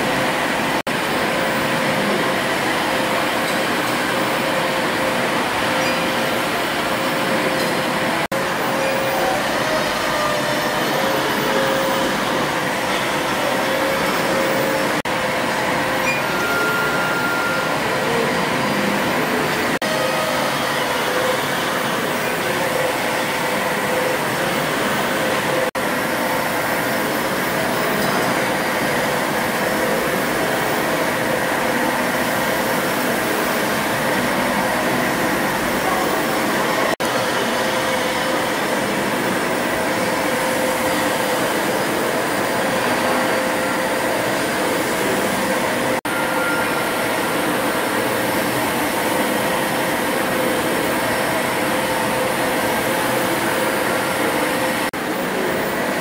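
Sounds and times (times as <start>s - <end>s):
steam engines running: 0.0s - 56.0s.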